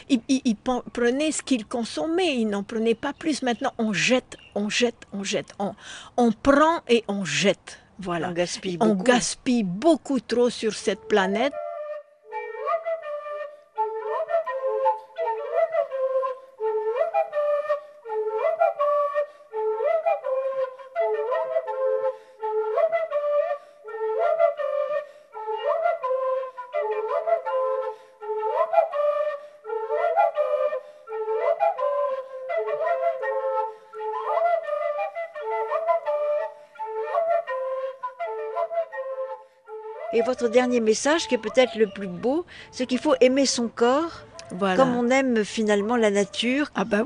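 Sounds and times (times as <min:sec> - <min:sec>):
solo instrumental melody: 0:08.1 - 0:47.0.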